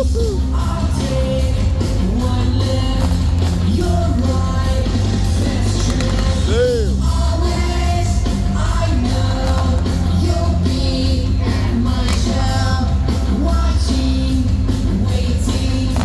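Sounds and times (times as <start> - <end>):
rock song with singing: 0.0 - 16.0.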